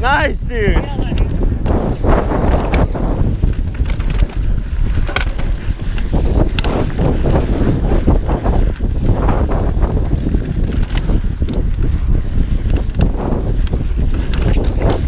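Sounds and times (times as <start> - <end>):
bike tyre rumble: 0.0 - 15.0
wind noise on microphone: 0.0 - 15.0
bike rattles and knocks: 0.8 - 15.0.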